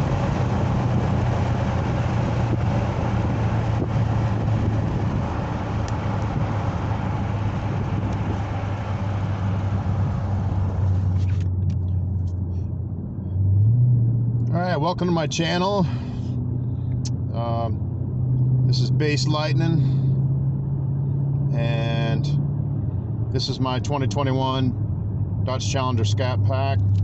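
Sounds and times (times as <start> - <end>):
car engine low drone: 0.0 - 27.0
road and tyre noise: 0.0 - 27.0.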